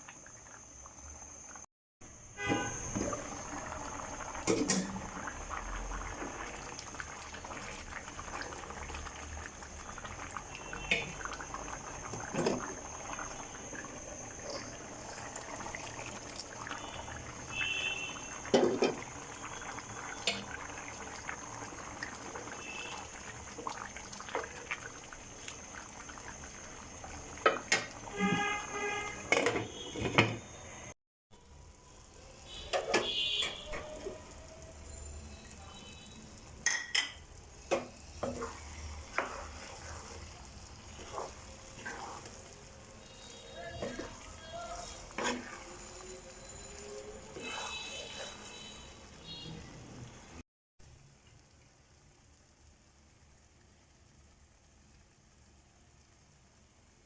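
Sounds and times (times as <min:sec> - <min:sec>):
food bubbling in a pot: 0:00.0 - 0:57.0.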